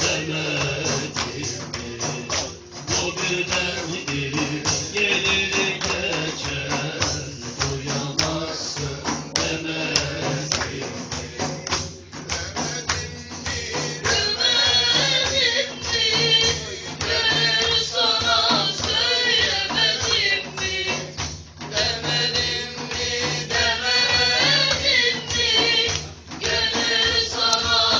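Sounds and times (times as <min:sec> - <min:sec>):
hand drum with jingles: 0:00.0 - 0:27.9.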